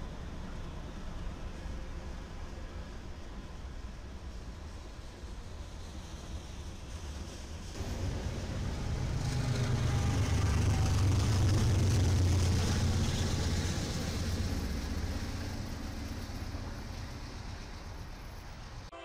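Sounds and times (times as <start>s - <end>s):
diesel locomotive engine rumble: 0.0s - 19.0s
rail and wheel noise: 0.0s - 19.0s.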